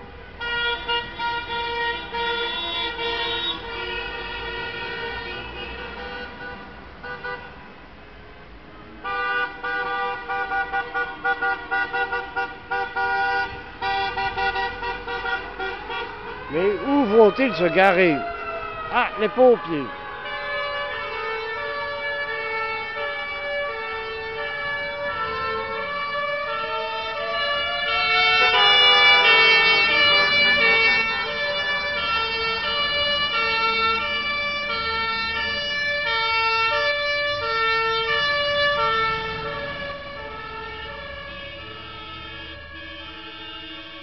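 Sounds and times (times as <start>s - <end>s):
fire engine two-tone siren: 0.0s - 6.4s, 10.1s - 44.0s.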